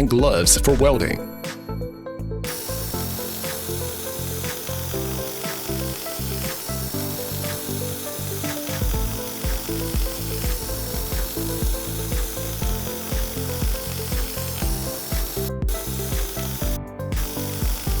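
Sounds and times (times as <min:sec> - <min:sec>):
background music with steady beat: 0:00.0 - 0:18.0.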